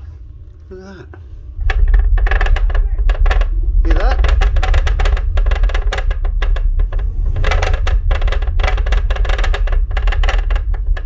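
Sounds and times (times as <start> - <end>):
deep movie bass from subwoofer: 1.5 - 11.0
clicking rattle of subwoofer: 1.6 - 11.0.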